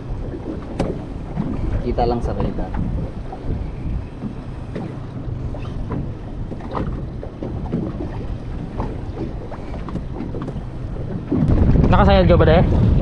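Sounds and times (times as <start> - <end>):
water slapping boat hull: 0.0 - 13.0
wind buffeting microphone: 0.0 - 13.0.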